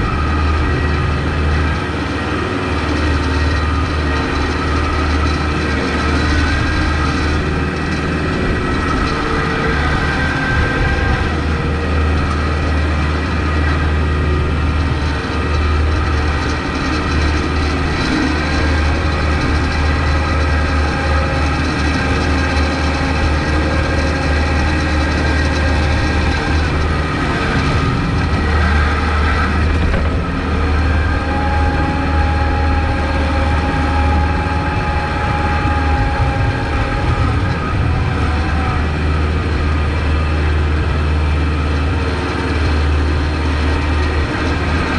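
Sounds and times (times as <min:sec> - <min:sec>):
thin whine: 0:00.0 - 0:44.9
tractor diesel engine drone: 0:00.0 - 0:44.9.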